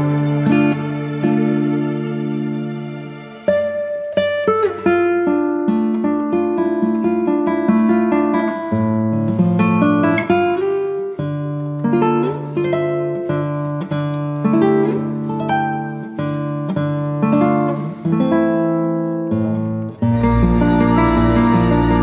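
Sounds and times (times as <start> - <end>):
plucked acoustic guitar: 0.0 - 22.0.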